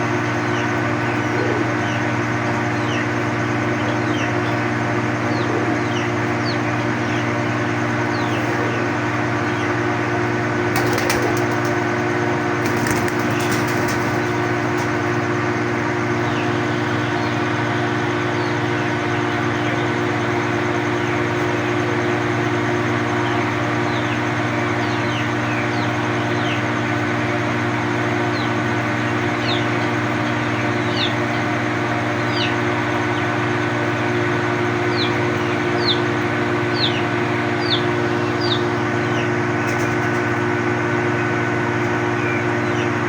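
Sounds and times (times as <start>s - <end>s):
ducklings peeping: 0.0s - 43.0s
mechanical hum: 0.0s - 43.0s.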